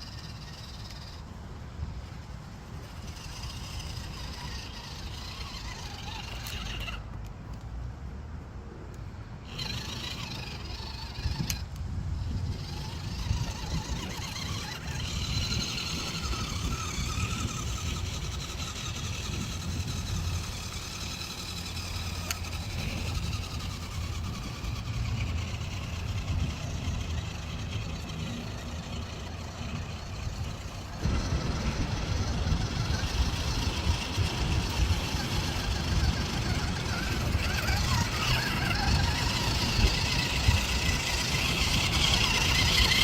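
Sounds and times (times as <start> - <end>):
toy truck motor whining: 0.0 - 7.6, 8.9 - 43.0.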